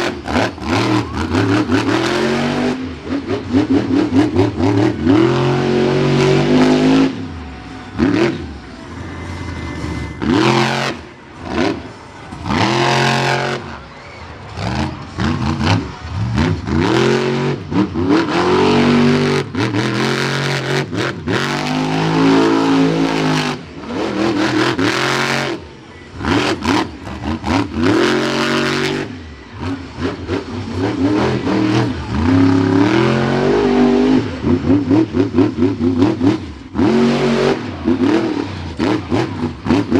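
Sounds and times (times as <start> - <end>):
truck engine revving hard: 0.0 - 39.9.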